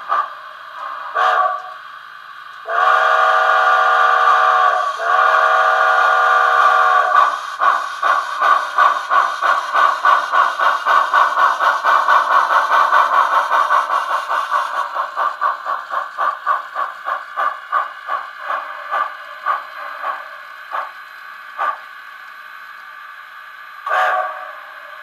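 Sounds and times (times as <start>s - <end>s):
steam locomotive chuffing from small speaker: 0.0s - 25.0s.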